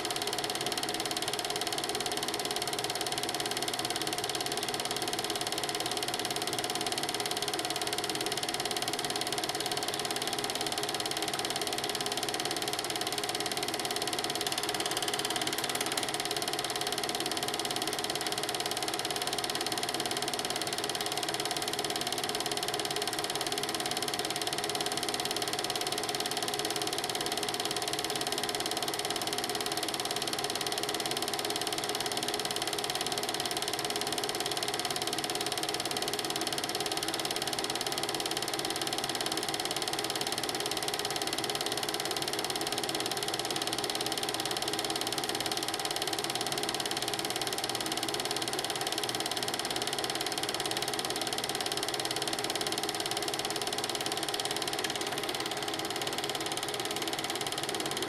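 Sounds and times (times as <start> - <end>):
film projector clatter: 0.0 - 58.0.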